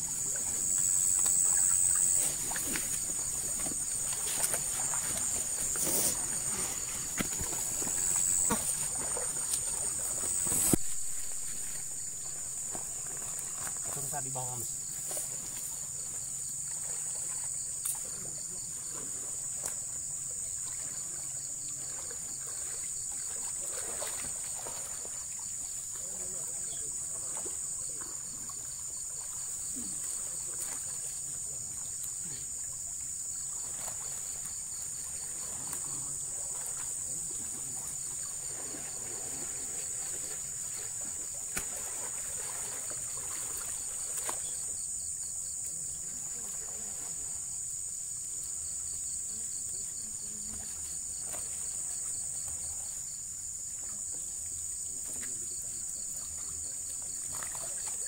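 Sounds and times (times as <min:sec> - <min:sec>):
insects chorus: 0:00.0 - 0:58.0
people wading in water: 0:00.0 - 0:58.0
pulsing insect trill: 0:00.0 - 0:58.0.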